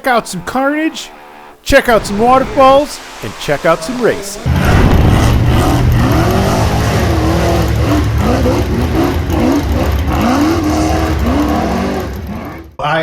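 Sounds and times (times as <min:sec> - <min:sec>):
buggy engine revving: 0:02.1 - 0:12.8.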